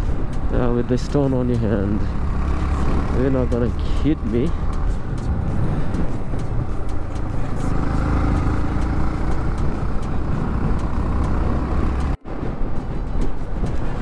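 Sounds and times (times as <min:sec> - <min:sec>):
motorcycle engine running: 0:00.0 - 0:12.2
heavy wind rush: 0:00.0 - 0:14.0.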